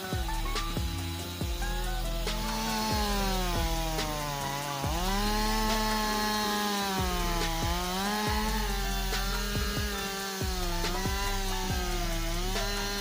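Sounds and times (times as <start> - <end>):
chainsaw cutting through timber: 0.0 - 13.0.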